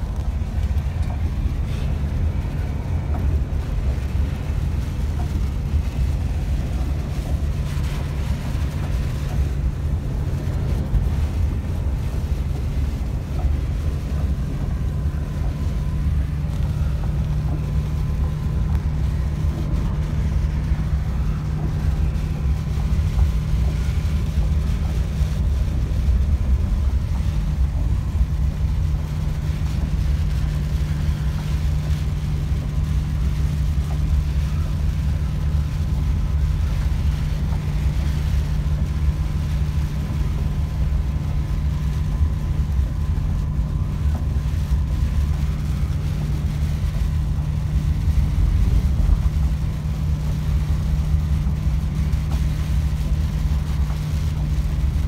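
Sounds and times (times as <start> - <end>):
engine and road noise drone: 0.0 - 55.0
low hum: 0.0 - 55.0.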